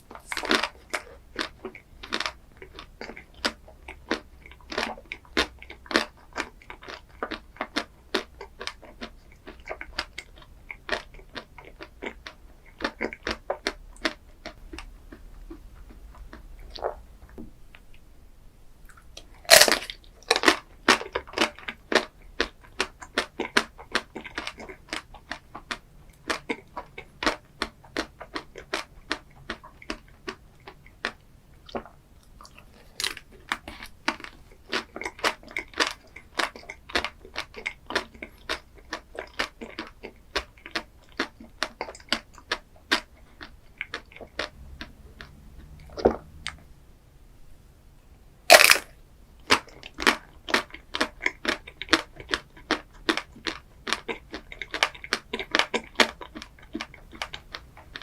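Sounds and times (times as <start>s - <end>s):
person chewing crunchy food: 0.0s - 18.0s, 18.8s - 46.7s, 48.5s - 58.0s.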